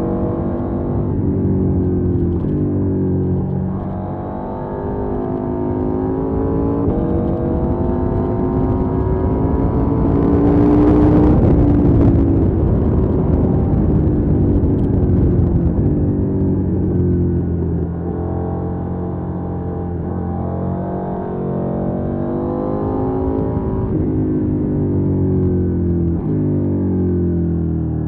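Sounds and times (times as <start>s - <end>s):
wind noise: 0.0s - 27.6s
motorcycle engine: 0.0s - 28.0s.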